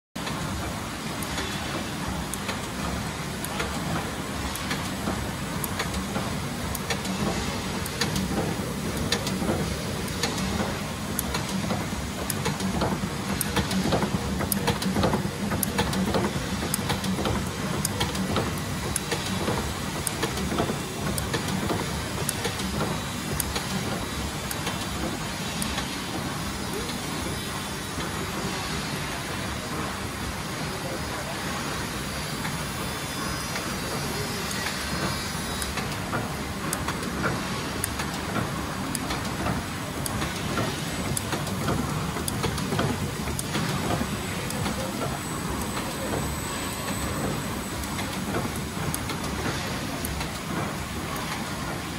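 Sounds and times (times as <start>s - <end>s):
machine clicks and knocks: 0.2s - 27.4s, 33.9s - 51.9s.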